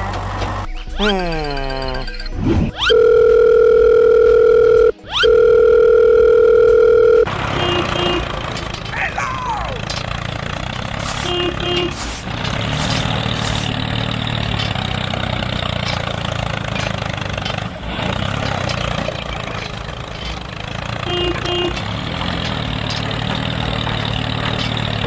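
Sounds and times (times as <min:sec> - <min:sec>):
toy excavator running: 0:02.9 - 0:25.0.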